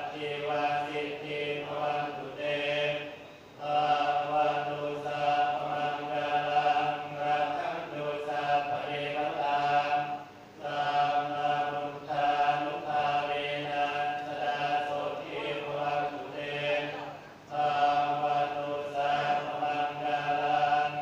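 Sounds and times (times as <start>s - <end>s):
congregation chanting in unison: 0.0s - 21.0s.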